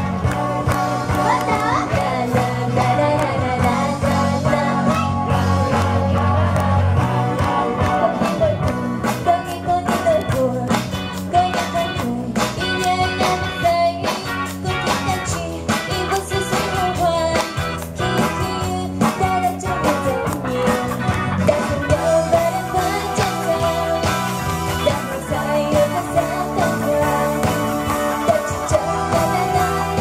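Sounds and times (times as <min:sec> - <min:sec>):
drum kit: 0:00.0 - 0:30.0
electric guitar: 0:00.0 - 0:30.0
keyboard: 0:00.0 - 0:30.0
woman singing: 0:01.0 - 0:06.4, 0:07.3 - 0:30.0.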